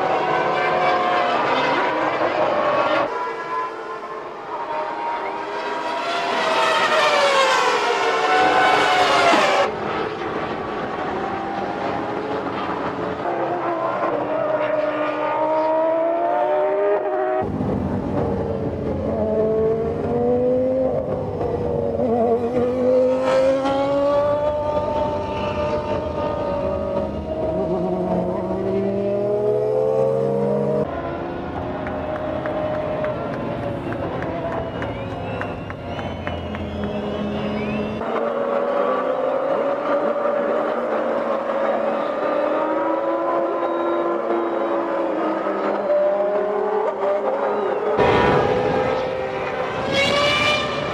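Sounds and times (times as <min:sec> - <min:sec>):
racing car engines accelerating: 0:00.0 - 0:50.9.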